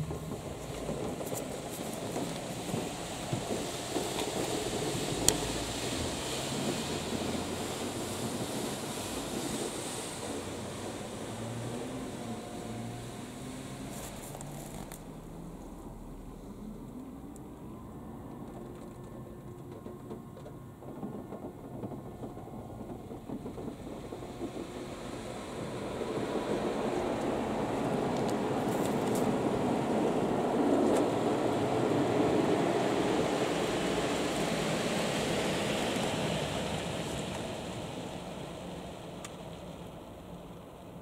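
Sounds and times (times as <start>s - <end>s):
car wash jets rushing on car: 0.0s - 41.0s.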